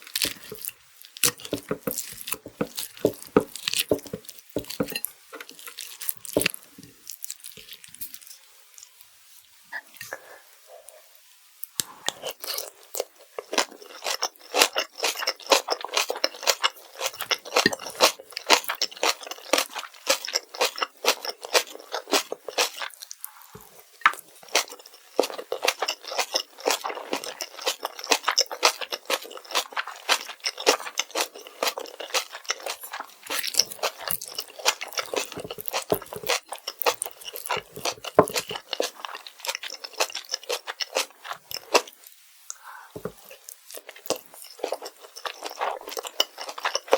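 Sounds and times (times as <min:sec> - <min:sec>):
wet crunchy chewing: 0:00.0 - 0:08.4, 0:11.8 - 0:46.9.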